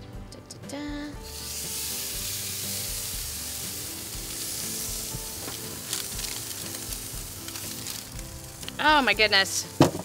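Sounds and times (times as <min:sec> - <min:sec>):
meat sizzling on a grill: 0:01.2 - 0:09.8.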